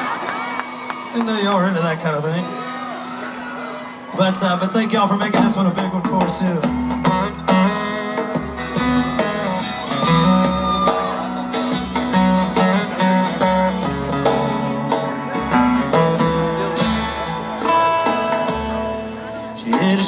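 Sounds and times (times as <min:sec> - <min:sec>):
country band playing: 0:00.0 - 0:20.0.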